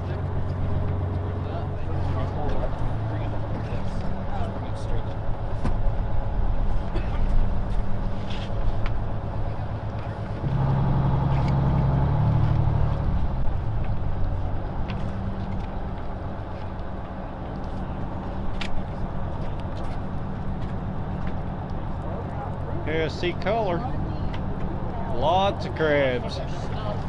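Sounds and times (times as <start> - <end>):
boat engine and winch humming: 0.0 - 27.0.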